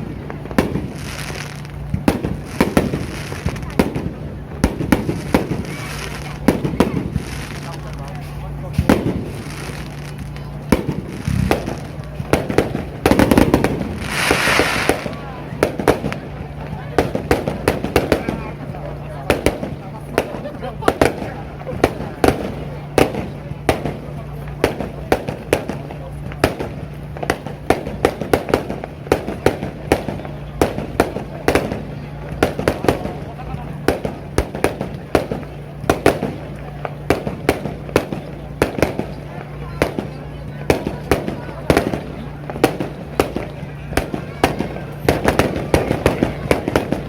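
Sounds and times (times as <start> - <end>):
fireworks bangs: 0.0 - 47.0
fireworks hissing crackle: 0.0 - 47.0
steady low hum: 0.0 - 47.0.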